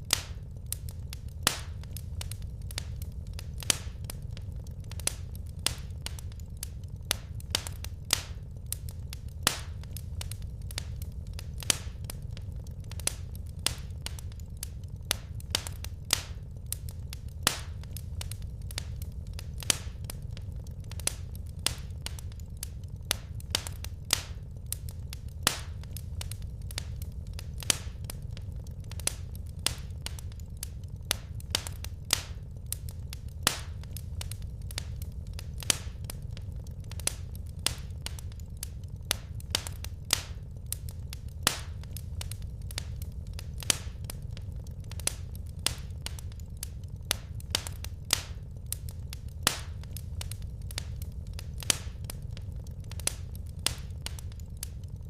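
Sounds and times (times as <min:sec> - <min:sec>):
fire low rumble: 0:00.0 - 0:55.0
firewood crackling and popping: 0:00.0 - 0:55.0.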